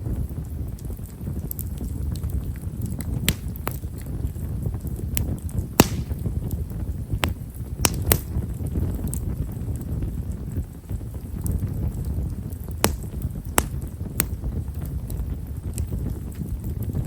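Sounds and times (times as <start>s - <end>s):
campfire flames rumbling: 0.0s - 17.0s
fire crackling pops: 0.0s - 17.0s.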